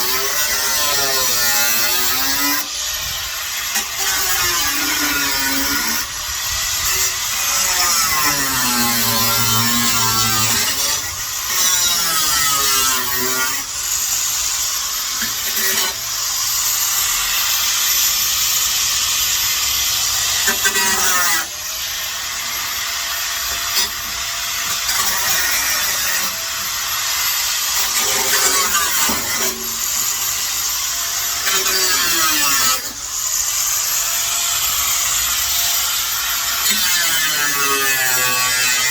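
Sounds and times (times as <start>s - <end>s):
power tool cutting steel: 0.0s - 38.9s.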